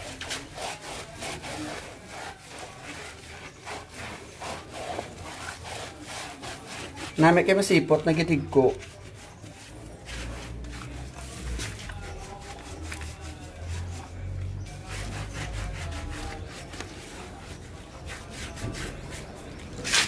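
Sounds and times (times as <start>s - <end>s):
brush scrubbing dog's coat: 0.0s - 20.0s.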